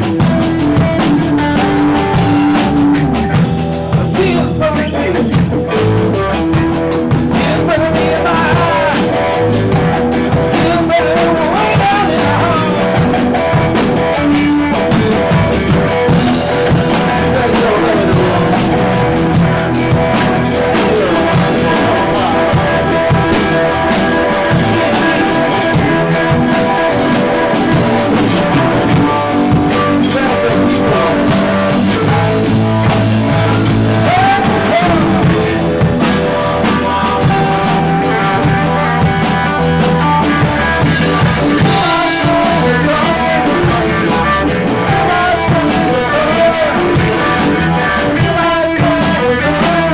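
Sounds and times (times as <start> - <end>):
blues-rock band playing: 0.0 - 49.9
electric guitar bending notes: 0.0 - 49.9.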